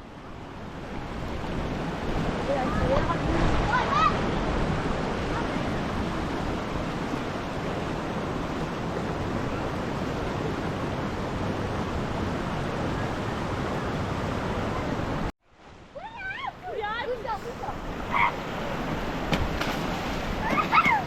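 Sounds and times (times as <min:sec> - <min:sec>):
running spring water: 0:00.6 - 0:21.0.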